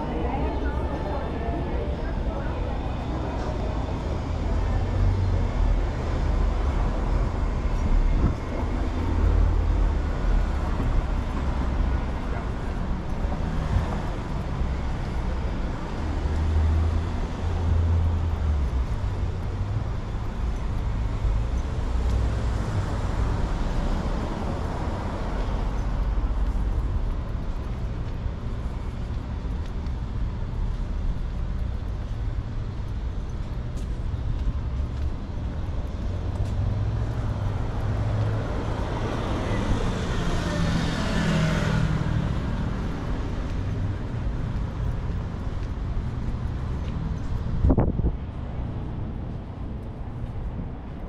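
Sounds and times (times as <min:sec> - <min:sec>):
low rumble of road traffic: 0:00.0 - 0:51.0.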